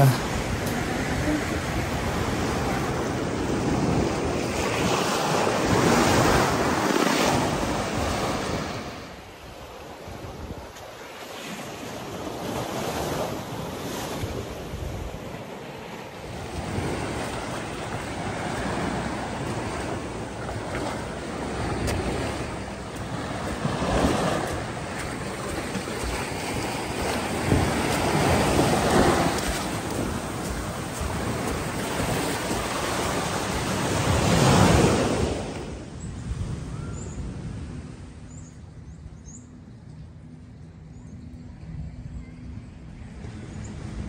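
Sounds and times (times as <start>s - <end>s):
sea waves washing onto sand: 0.0s - 35.8s.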